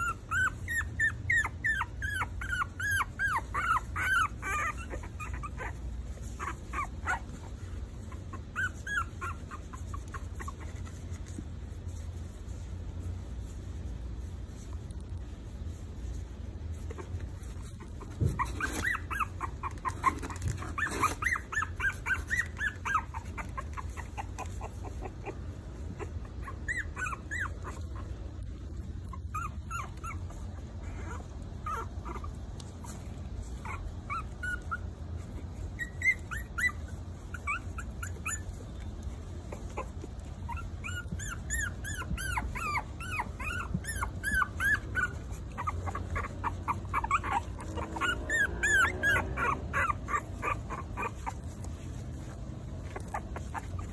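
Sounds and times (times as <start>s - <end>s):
puppies whimpering and yipping: 0.0s - 53.9s.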